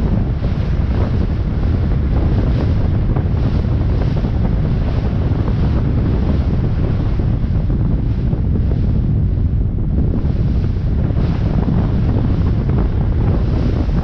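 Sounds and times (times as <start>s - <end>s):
sea water rushing along hull: 0.0s - 14.0s
wind rumbling on microphone: 0.0s - 14.0s.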